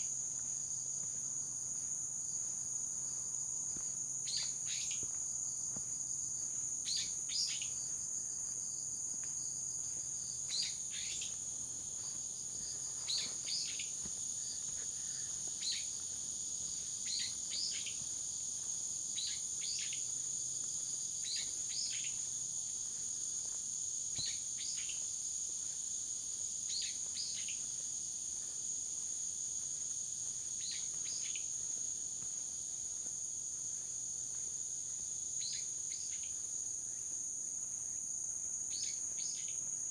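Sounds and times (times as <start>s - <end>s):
insects trilling: 3.8s - 8.6s, 9.7s - 39.9s.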